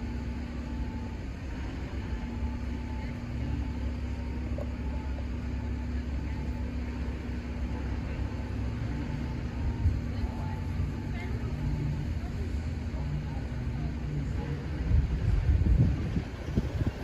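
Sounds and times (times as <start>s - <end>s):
passing vehicle engine rumble: 0.0s - 17.0s.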